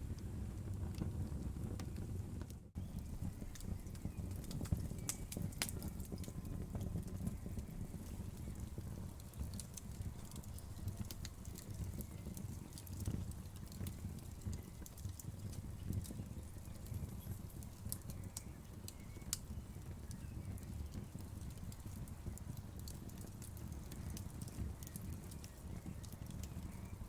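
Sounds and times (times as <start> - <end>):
low rumble of flames: 0.0 - 27.0
wood fire crackling: 0.0 - 27.0.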